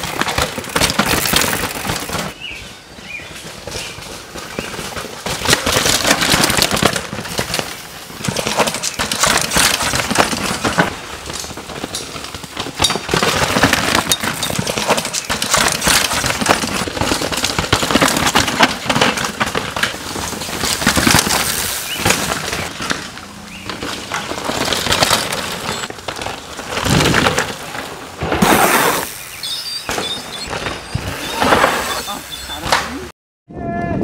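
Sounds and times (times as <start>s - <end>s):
bike tyres clattering over stones: 0.0s - 33.0s
bikes rattling: 0.0s - 33.1s.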